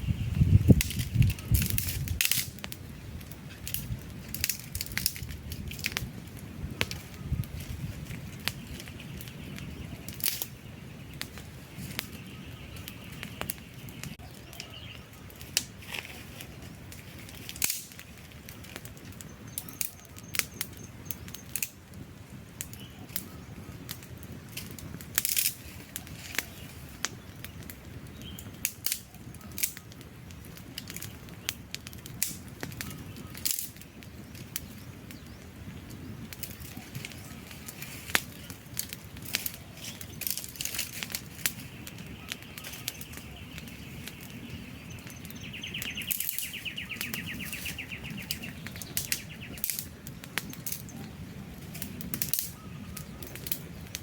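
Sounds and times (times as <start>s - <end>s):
low rumble of flames: 0.0s - 54.0s
wood fire crackling: 0.0s - 54.0s
sharp pops and snaps: 0.6s - 54.0s.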